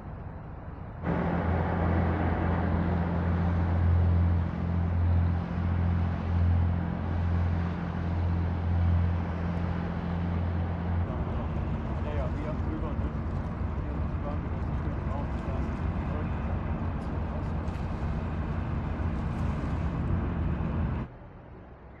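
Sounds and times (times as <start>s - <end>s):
diesel engine droning: 0.0s - 22.0s
propeller wash churning water: 1.0s - 21.1s.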